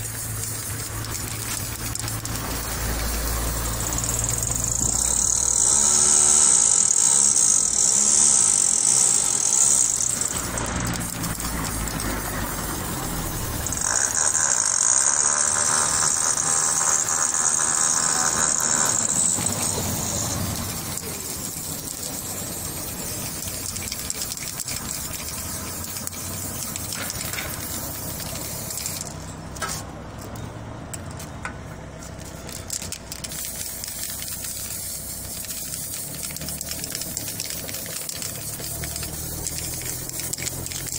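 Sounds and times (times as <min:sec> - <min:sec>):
aerosol spray can hissing: 0:00.0 - 0:15.8, 0:17.0 - 0:29.8, 0:32.1 - 0:40.9.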